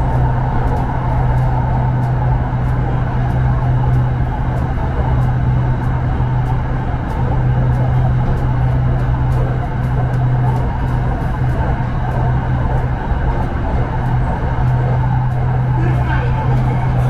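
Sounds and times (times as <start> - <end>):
electric train interior hum and rumble: 0.0 - 17.0.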